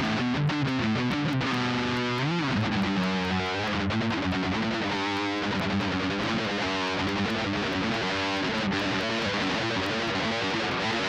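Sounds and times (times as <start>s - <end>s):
electric guitar lead line: 0.0s - 11.0s.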